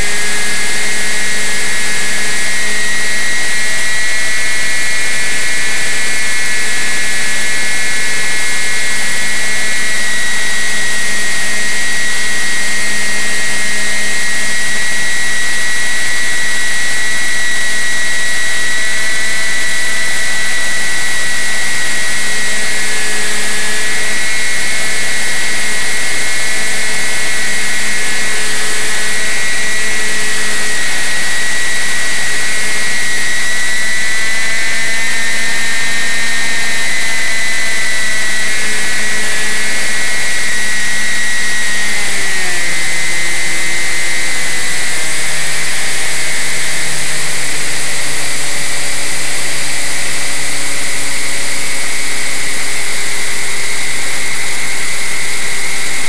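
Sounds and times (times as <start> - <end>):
motor high whine: 0.0 - 56.0.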